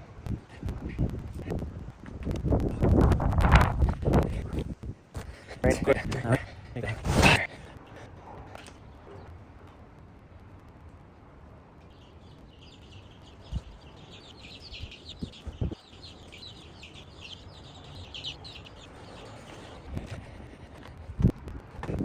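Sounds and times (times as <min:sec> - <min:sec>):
birds chirping: 0:00.0 - 0:09.6, 0:11.7 - 0:21.1.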